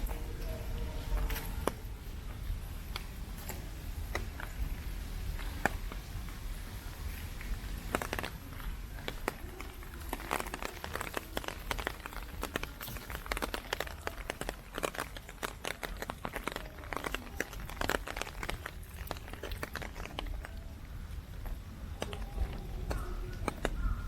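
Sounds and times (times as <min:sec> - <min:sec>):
heavy rain pattering: 0:00.0 - 0:24.0.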